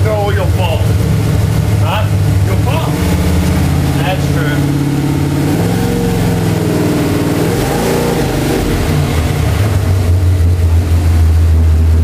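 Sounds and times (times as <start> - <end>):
van engine accelerating: 0.0 - 12.0.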